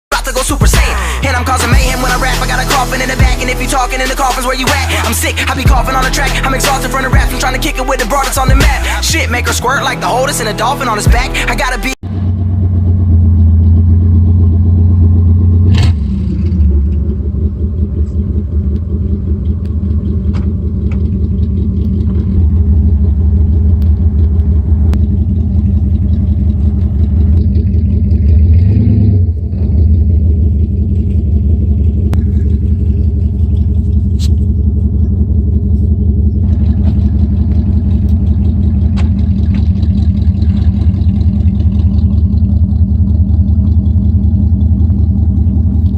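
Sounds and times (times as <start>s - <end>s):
car engine running: 0.1s - 45.9s.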